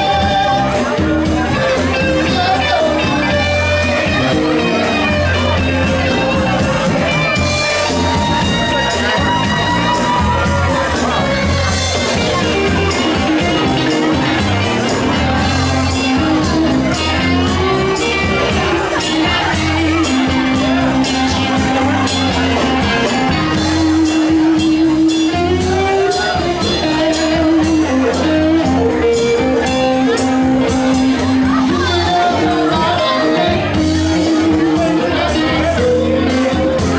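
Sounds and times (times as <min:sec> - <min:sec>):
bass guitar: 0:00.0 - 0:36.9
drum kit steady beat: 0:00.0 - 0:36.9
electric guitar: 0:00.0 - 0:36.9.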